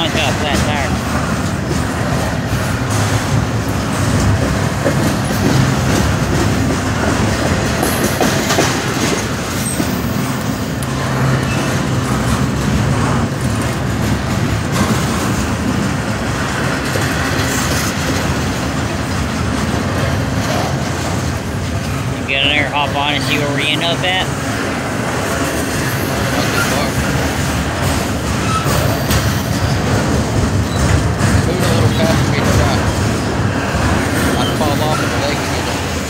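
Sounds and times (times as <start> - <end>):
freight train wheels on rails: 0.0 - 36.0.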